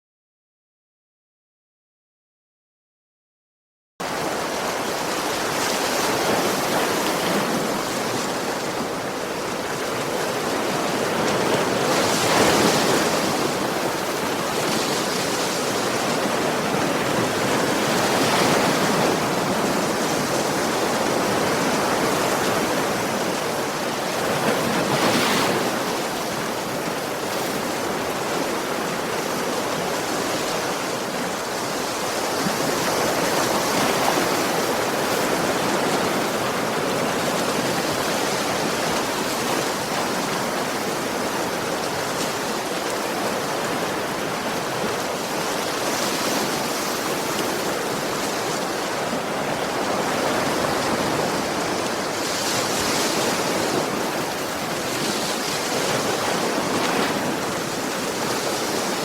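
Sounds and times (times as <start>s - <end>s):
ocean waves breaking on shore: 4.0s - 59.0s.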